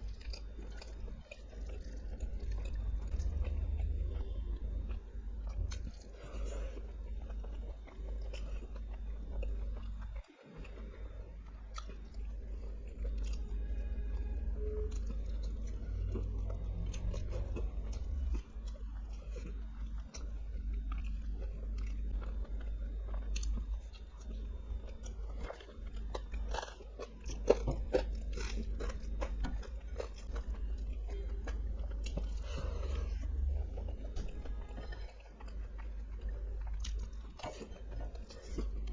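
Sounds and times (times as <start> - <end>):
chewing and biting food: 0.0 - 38.9
steady low hum: 0.0 - 38.9.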